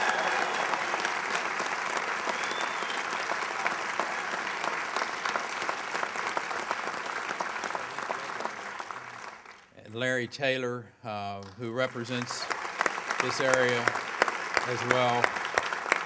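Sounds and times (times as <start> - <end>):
crowd applause: 0.0 - 9.6, 11.9 - 16.0.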